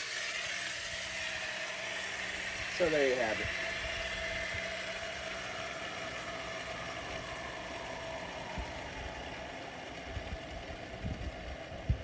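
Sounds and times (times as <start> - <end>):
saw blade spinning down: 0.0 - 11.0
brush cutter idling: 0.0 - 12.0.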